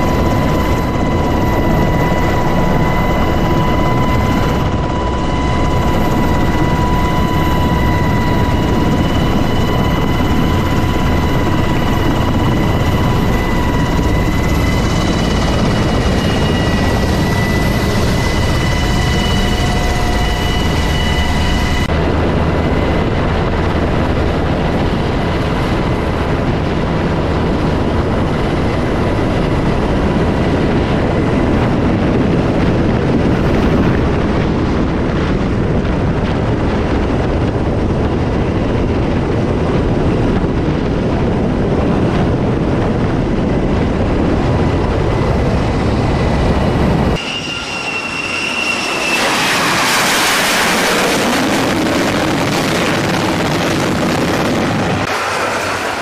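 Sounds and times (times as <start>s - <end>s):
helicopter turbine whine: 0.0s - 56.0s
rotor noise and wind rush: 0.0s - 56.0s.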